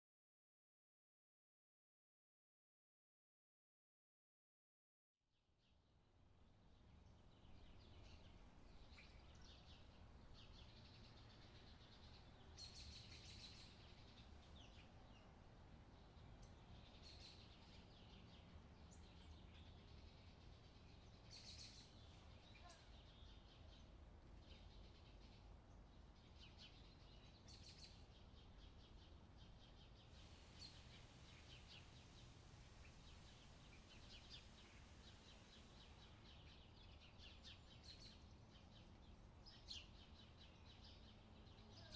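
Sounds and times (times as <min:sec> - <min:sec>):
small birds chirping: 0:06.7 - 0:41.9.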